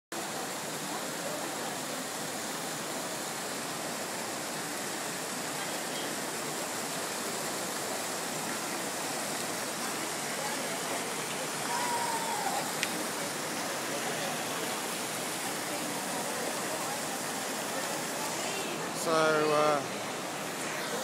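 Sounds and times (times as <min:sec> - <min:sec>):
fountain water splashing: 0:00.1 - 0:21.0.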